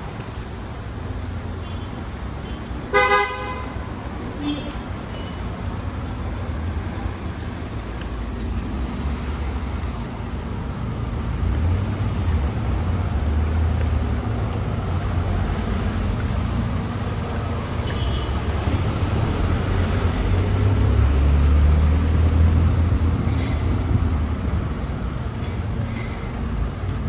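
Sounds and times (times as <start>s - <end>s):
low street rumble: 0.0s - 27.0s.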